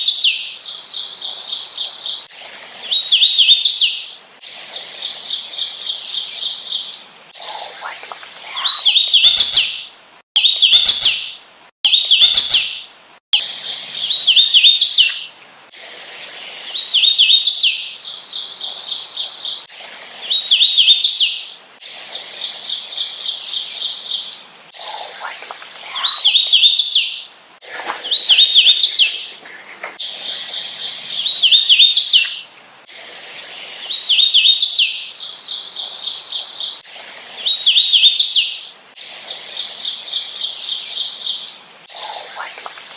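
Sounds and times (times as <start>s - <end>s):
warbler singing: 0.0s - 4.2s, 4.8s - 15.4s, 16.2s - 21.6s, 22.3s - 32.6s, 33.3s - 42.9s
faint repeated bird notes: 0.0s - 42.9s.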